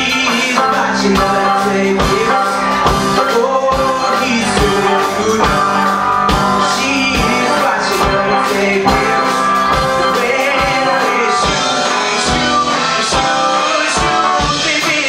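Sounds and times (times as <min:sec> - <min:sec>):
bass guitar: 0:00.0 - 0:15.0
drum kit beat: 0:00.0 - 0:15.0
electric guitar: 0:00.0 - 0:15.0
man singing: 0:00.0 - 0:15.0.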